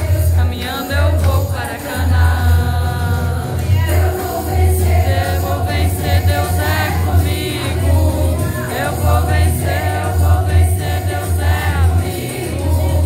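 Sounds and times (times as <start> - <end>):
low accompaniment: 0.0 - 13.0
women's choir singing gospel: 0.0 - 13.0.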